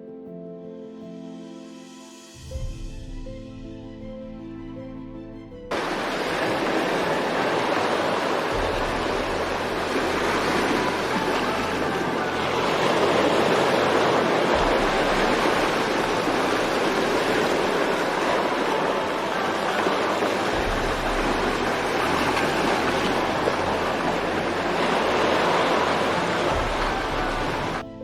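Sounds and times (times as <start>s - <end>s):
rushing water: 4.5s - 28.0s.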